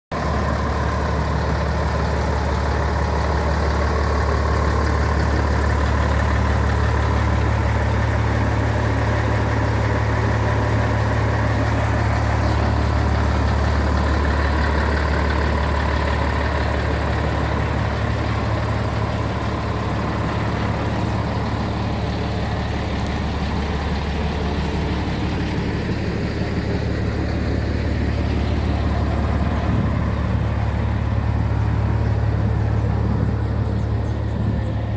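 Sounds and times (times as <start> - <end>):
diesel truck engine droning: 0.1 - 34.9.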